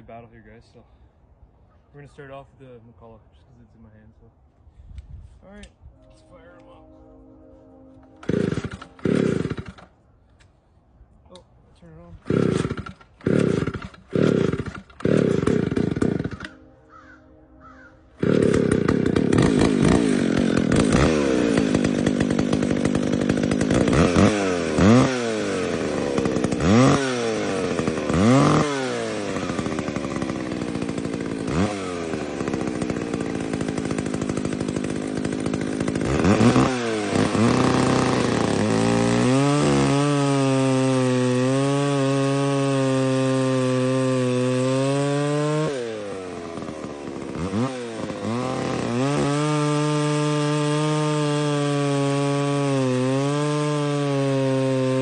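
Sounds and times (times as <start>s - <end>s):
chainsaw engine revving: 8.2s - 9.9s, 12.2s - 55.0s.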